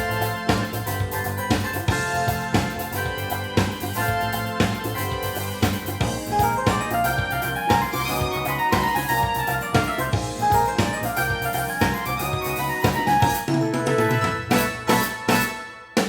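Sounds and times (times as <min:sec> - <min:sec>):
bass line: 0:00.0 - 0:15.5
drum hits: 0:00.0 - 0:16.0
keyboard melody: 0:00.0 - 0:16.0.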